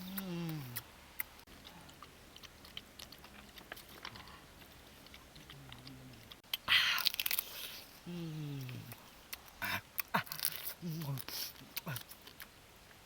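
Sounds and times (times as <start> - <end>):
chewing and crunching crab: 0.0 - 12.6.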